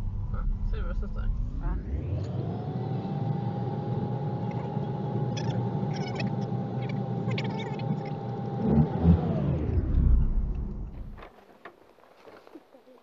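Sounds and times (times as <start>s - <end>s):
car engine and road noise: 0.0s - 11.4s.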